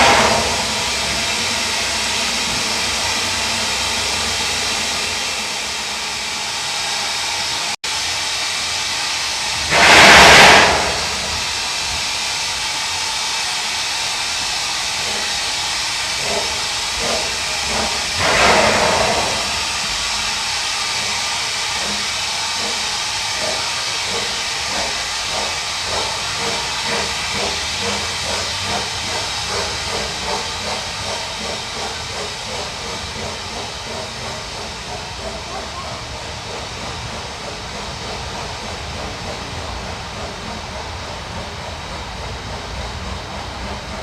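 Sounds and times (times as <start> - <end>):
steam blast: 0.0 - 44.0
steam locomotive exhaust beats: 0.0 - 44.0
steam locomotive hissing: 0.0 - 44.0.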